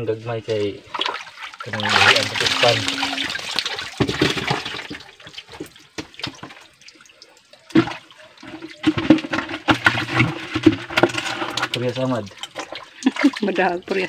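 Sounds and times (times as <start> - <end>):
hands splashing muddy water: 0.9 - 14.0.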